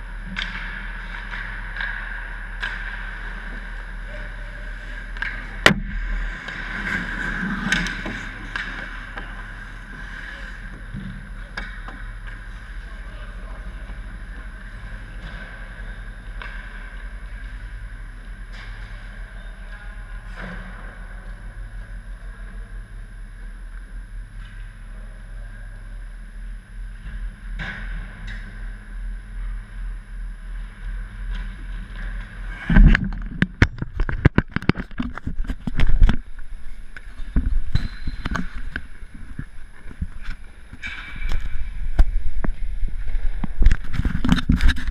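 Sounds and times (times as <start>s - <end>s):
distant skating and stick clicks: 0.0s - 22.8s, 23.7s - 44.9s
ice rink hum: 0.0s - 44.9s.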